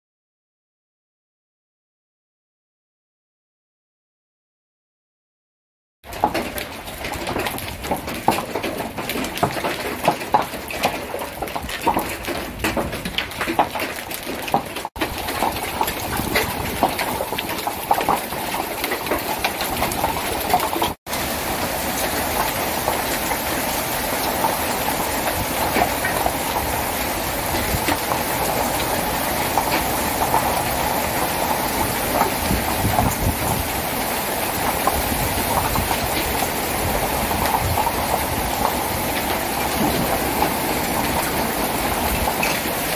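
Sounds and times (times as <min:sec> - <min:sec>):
hailstones pelting a garden: 0:06.0 - 0:42.9.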